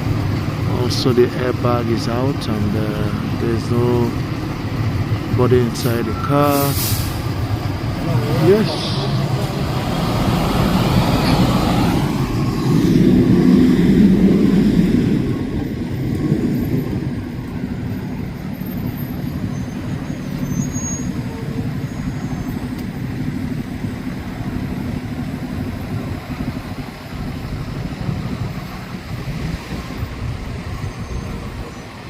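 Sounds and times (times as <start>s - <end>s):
road traffic engines rumbling: 0.0s - 32.0s.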